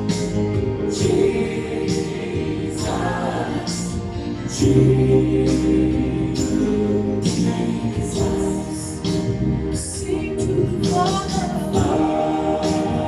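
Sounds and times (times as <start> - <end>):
choir singing worship music: 0.0 - 13.0.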